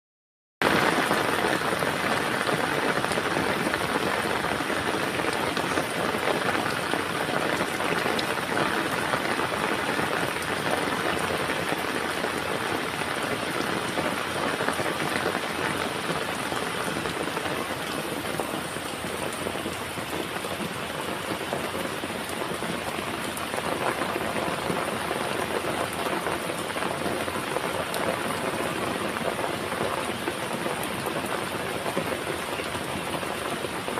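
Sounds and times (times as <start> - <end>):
heavy rain falling: 0.6 - 33.9.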